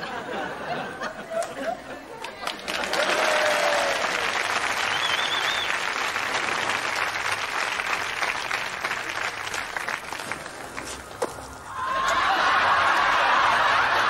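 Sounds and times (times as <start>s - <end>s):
audience applauding: 2.2s - 14.0s.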